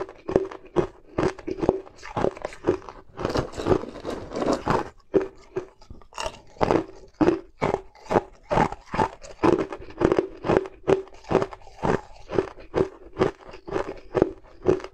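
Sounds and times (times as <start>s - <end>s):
ice cubes crunched by teeth: 0.0s - 14.9s.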